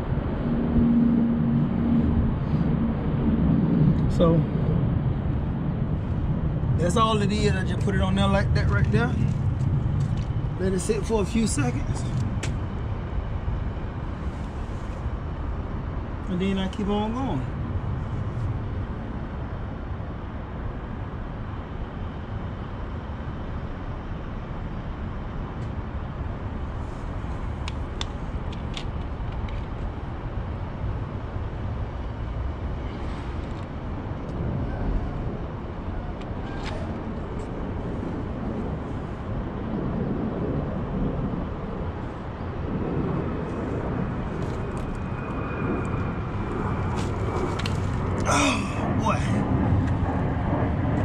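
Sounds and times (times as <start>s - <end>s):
low vehicle rumble: 0.0s - 51.0s.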